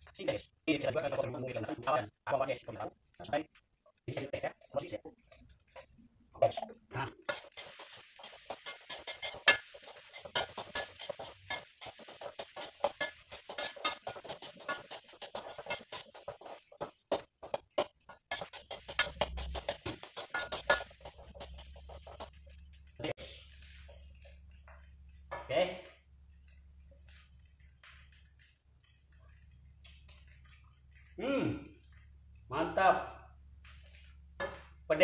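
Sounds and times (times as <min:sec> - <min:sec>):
small clicks and crackles: 0:00.0 - 0:32.5, 0:33.2 - 0:34.9.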